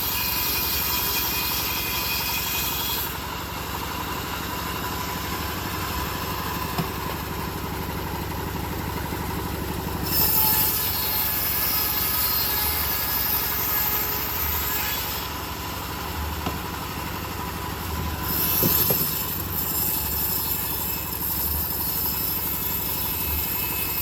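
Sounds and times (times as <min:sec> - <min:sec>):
bandsaw mill engine running: 0:00.0 - 0:24.0.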